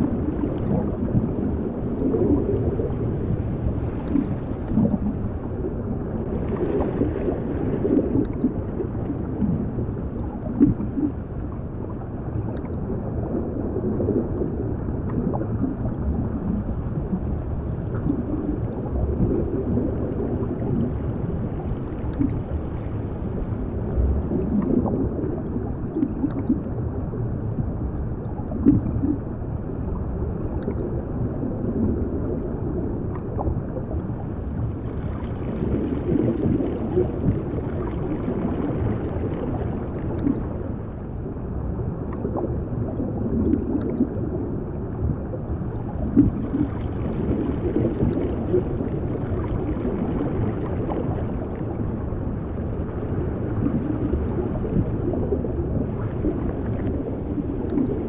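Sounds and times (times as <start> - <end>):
underwater bubbling and gurgling: 0.0 - 58.0.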